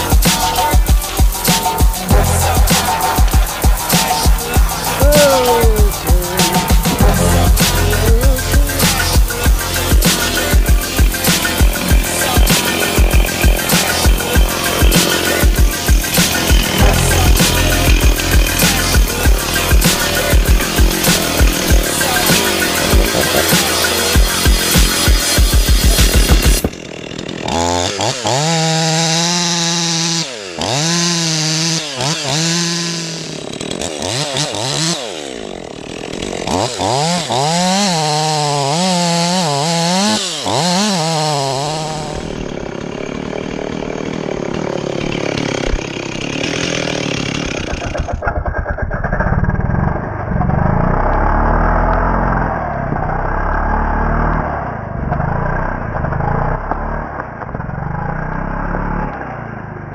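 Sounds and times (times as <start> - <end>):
chainsaw cutting into wood: 0.0 - 59.9
chainsaw revving: 0.0 - 59.9.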